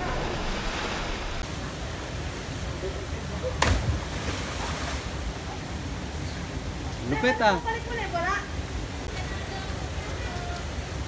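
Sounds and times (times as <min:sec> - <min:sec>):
river water over rocks: 0:01.4 - 0:11.0.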